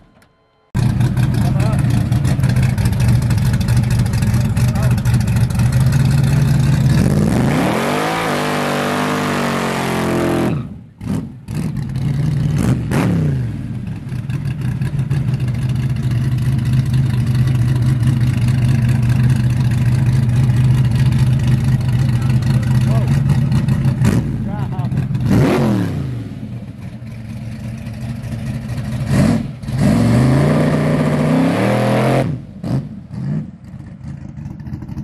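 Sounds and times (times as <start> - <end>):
engine revving: 0.8 - 35.0.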